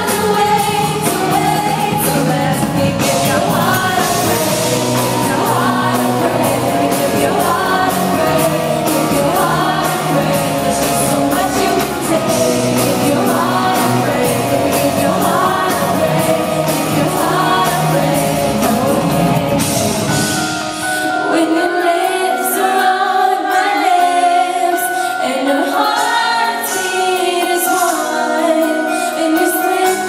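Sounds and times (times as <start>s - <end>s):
woman singing: 0.0s - 20.4s, 21.0s - 30.0s
live pop band playing: 0.0s - 30.0s.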